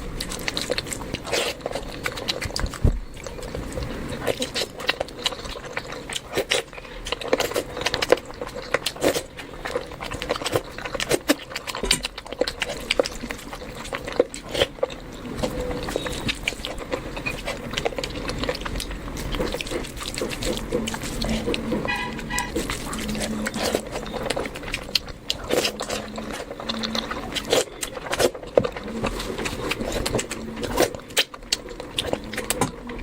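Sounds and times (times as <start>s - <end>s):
wet chewing and lip-smacking: 0.0s - 33.0s.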